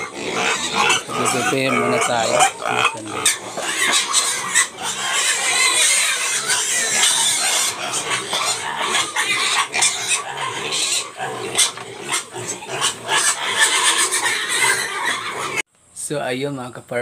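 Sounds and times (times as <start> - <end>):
young pigs squealing: 0.0 - 15.6.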